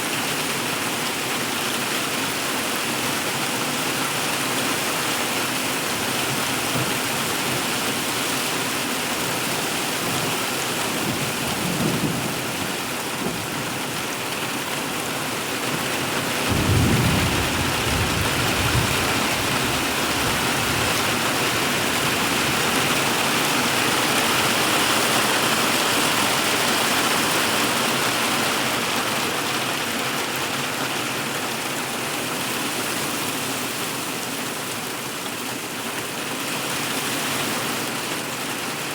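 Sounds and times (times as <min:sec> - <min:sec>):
hail pelting a plastic roof: 0:00.1 - 0:38.9.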